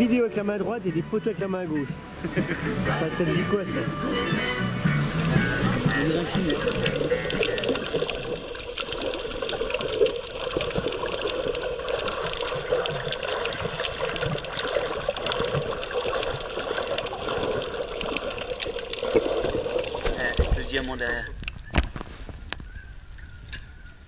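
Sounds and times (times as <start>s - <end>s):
muffled underwater wash: 2.1s - 24.0s
fine underwater crackling: 2.2s - 24.0s.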